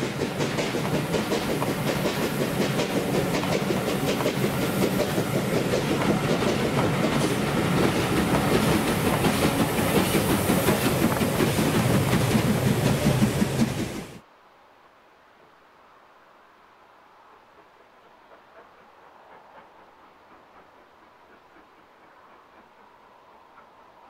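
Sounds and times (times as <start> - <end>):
train wheels clattering on rails: 0.0 - 14.2, 17.6 - 24.0.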